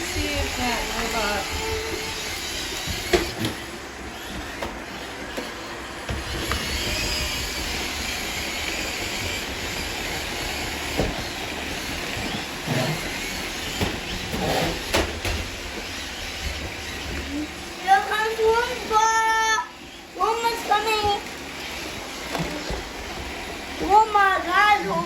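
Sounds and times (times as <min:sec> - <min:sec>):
robot vacuum whirring: 0:00.0 - 0:25.0.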